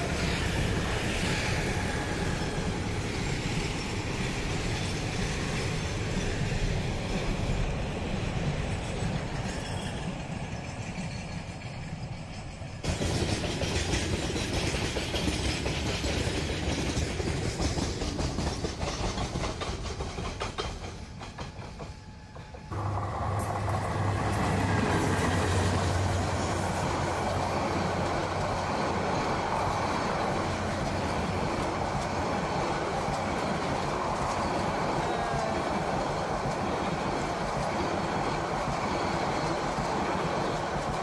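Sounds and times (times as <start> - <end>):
diesel locomotive engine hum: 0.0 - 41.0
train wheels clattering on rails: 0.0 - 41.0.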